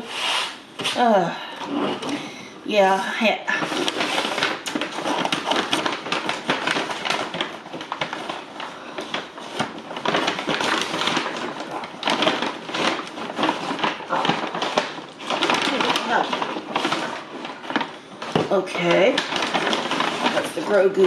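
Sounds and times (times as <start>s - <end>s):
food packaging crinkling: 3.5s - 21.0s.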